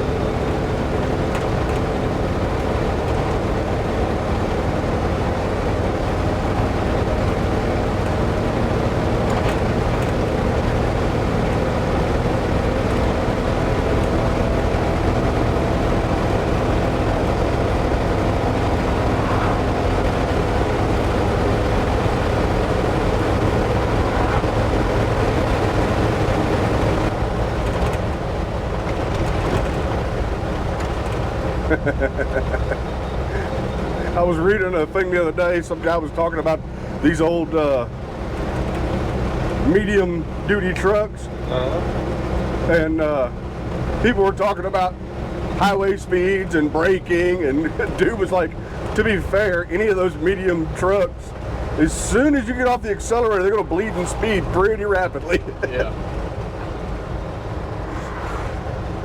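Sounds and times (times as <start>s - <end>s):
road noise: 0.0s - 59.0s
truck engine from inside cab: 0.0s - 59.0s.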